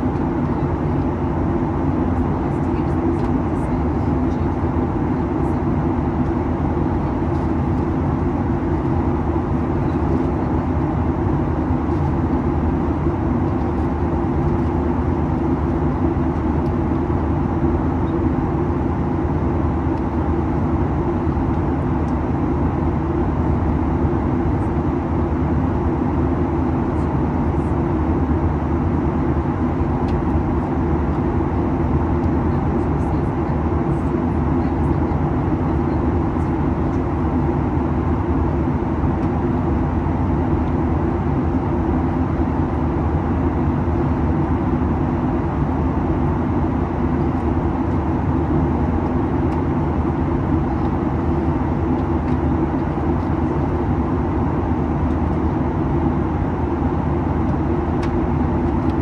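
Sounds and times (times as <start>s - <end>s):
airplane cabin drone: 0.0s - 59.0s
steady low hum: 0.0s - 59.0s.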